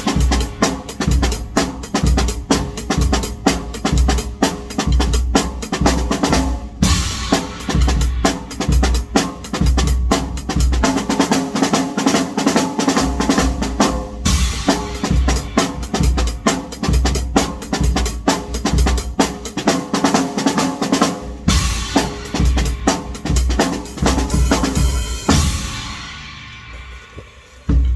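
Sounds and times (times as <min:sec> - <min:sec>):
drum kit played with sticks: 0:00.0 - 0:27.9.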